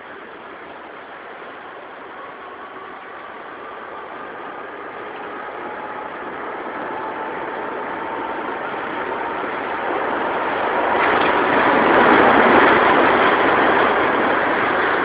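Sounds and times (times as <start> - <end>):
suspension train running noise: 0.0 - 15.0.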